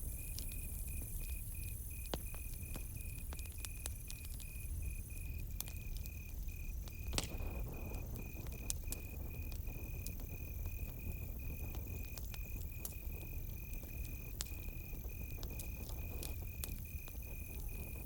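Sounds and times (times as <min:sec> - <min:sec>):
campfire crackling: 0:00.0 - 0:18.0
cricket chirping: 0:00.0 - 0:18.0.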